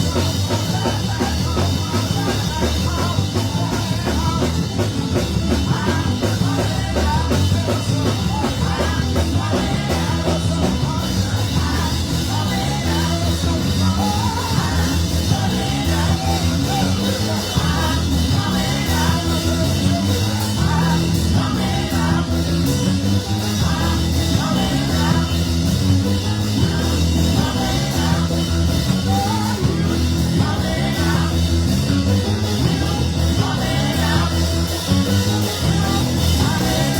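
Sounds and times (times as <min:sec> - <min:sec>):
drums: 0:00.0 - 0:36.9
person singing: 0:00.0 - 0:36.9
stepping bass line: 0:00.0 - 0:36.9.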